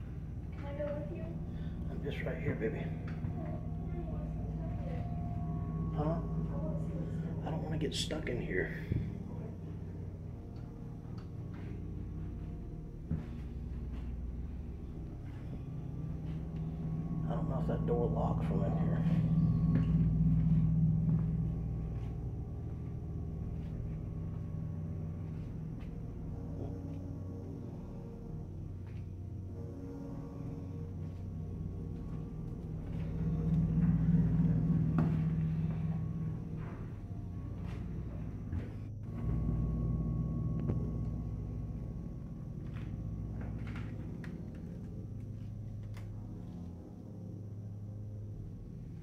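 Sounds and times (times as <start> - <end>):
low steady drone: 0.0 - 49.0
steady low hum: 0.0 - 49.0.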